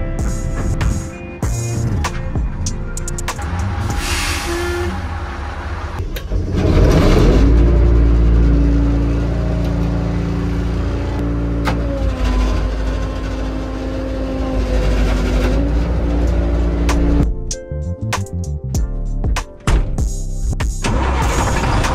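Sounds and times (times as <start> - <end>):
dump truck diesel engine: 0.0 - 17.2, 20.8 - 21.9.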